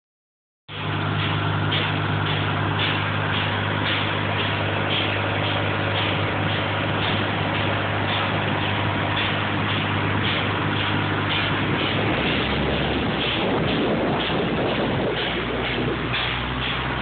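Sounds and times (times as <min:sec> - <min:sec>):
water pump humming and hissing: 0:00.7 - 0:17.0.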